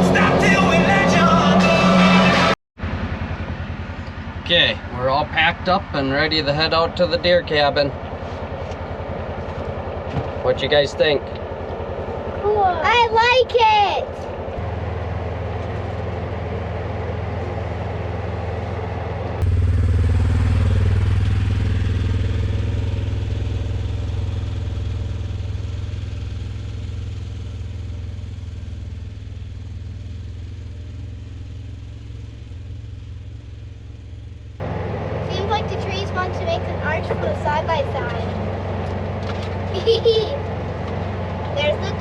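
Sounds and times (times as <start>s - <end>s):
vehicle engine drone: 0.0s - 42.0s
vehicle rattling: 0.0s - 42.0s.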